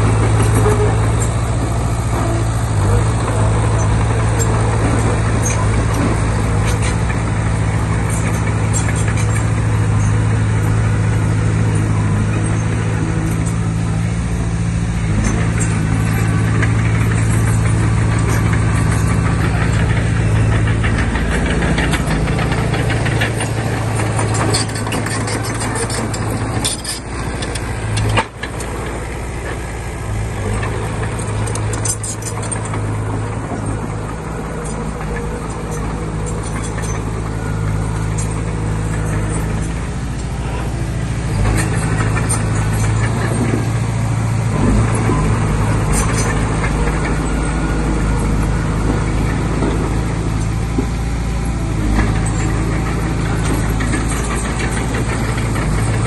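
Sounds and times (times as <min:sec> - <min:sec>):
bulldozer diesel engine running: 0:00.0 - 0:56.0
metallic clanking: 0:00.0 - 0:56.0.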